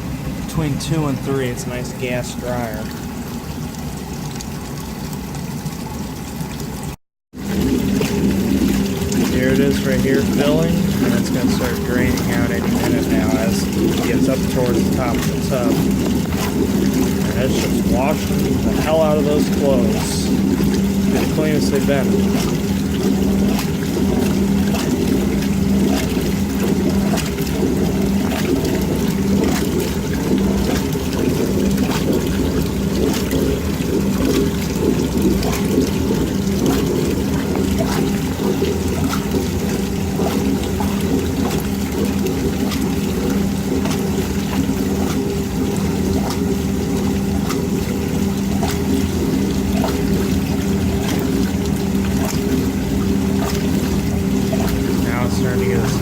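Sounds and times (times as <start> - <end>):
washing machine motor hum: 0.0 - 56.0
water sloshing in tub: 0.0 - 56.0.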